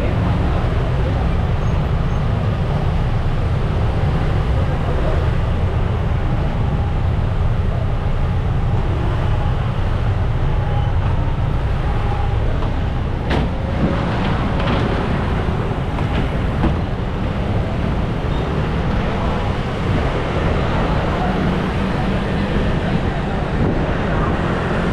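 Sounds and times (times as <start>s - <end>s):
ferry engine: 0.0s - 24.9s
scooter engines rumbling: 0.0s - 24.9s.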